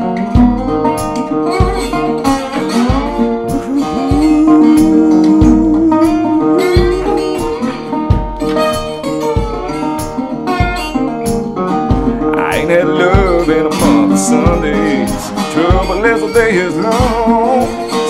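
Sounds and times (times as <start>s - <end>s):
resonator guitar blues: 0.0s - 18.0s
low rhythmic thump: 0.1s - 18.0s.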